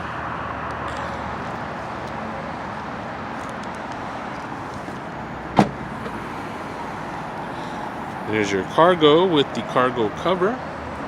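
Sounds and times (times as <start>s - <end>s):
outdoor traffic: 0.0s - 11.0s
wind: 0.0s - 11.0s.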